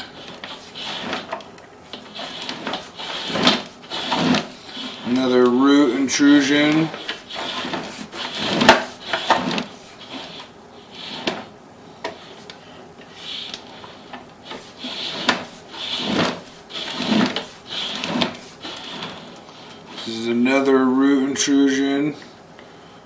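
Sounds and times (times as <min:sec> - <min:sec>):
cable rubbing and scraping: 0:00.0 - 0:12.6, 0:13.2 - 0:20.7.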